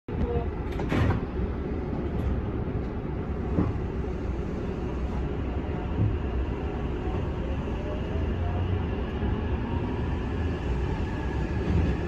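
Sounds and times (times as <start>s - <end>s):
train rumbling: 0.1s - 12.0s.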